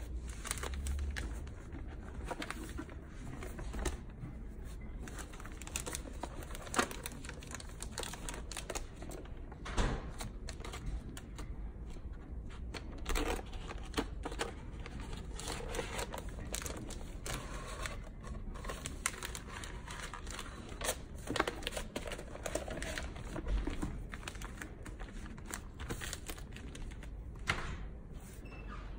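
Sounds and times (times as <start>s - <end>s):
plastic film crinkling and rustling: 0.0s - 27.3s.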